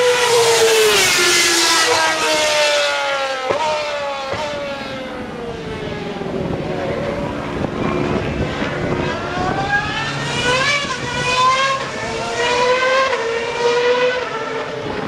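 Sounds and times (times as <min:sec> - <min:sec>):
racing car engine accelerating: 0:00.0 - 0:15.0.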